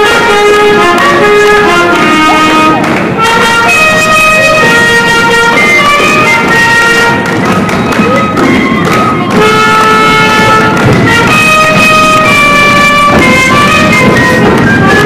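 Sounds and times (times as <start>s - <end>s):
wind ensemble playing held notes: 0.0s - 15.0s.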